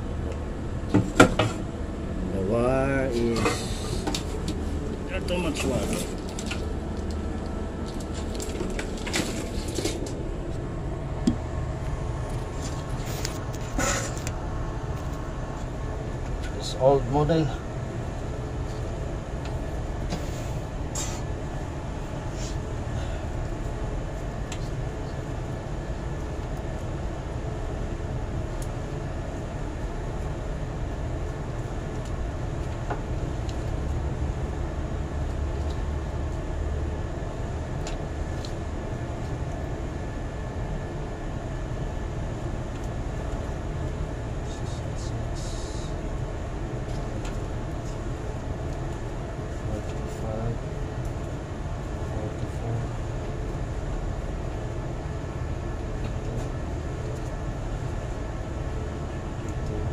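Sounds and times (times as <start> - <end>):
low mechanical rumble: 0.0 - 59.9.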